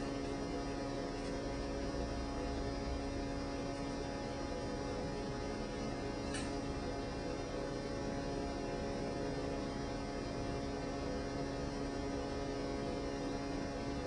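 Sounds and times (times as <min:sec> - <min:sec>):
steady hum of held tones: 0:00.0 - 0:14.0.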